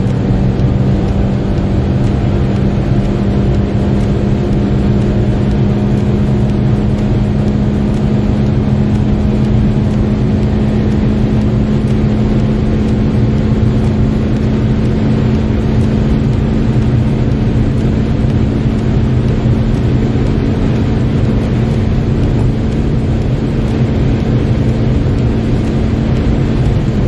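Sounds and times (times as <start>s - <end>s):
car engine accelerating hard: 0.0s - 27.0s
wind and road noise: 0.0s - 27.0s.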